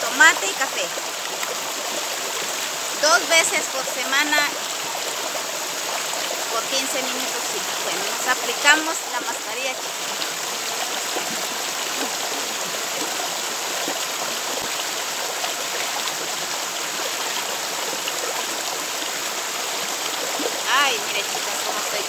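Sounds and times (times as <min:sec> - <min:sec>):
stream running over rocks: 0:00.0 - 0:22.0.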